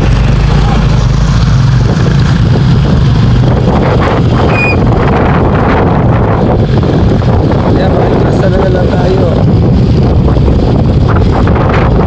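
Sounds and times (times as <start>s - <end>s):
bus engine passing: 0.0s - 12.0s
small motorcycle engines: 0.0s - 12.0s.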